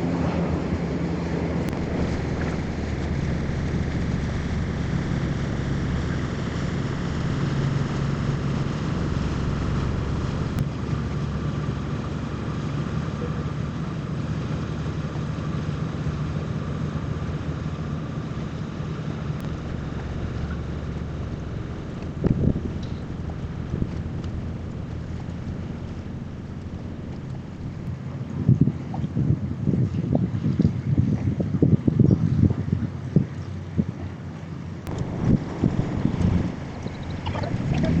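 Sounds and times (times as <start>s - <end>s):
wind noise on microphone: 0.0s - 12.5s, 17.1s - 38.0s
boat engine droning: 0.0s - 38.0s.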